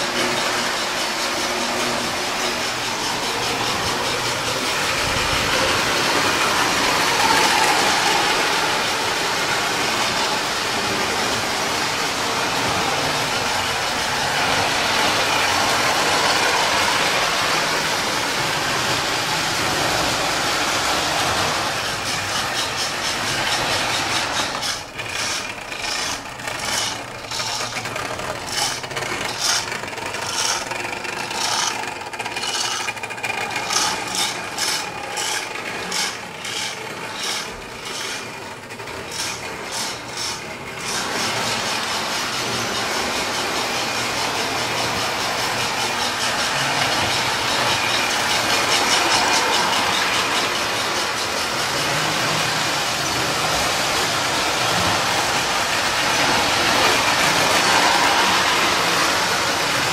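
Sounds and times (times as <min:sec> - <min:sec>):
model train motors and wheels rumble: 0:00.0 - 0:59.9
rhythmic clicking of model locomotive: 0:00.0 - 0:59.9.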